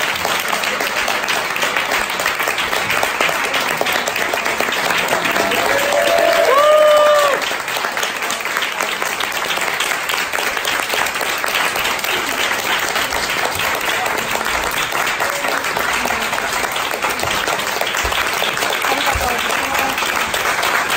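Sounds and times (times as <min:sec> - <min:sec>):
audience applauding: 0:00.0 - 0:20.9.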